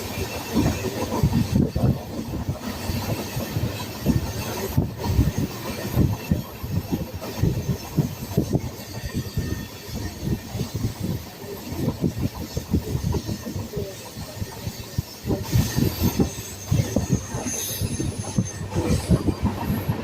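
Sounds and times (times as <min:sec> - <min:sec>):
train wheels clattering over rails: 0:00.0 - 0:20.0.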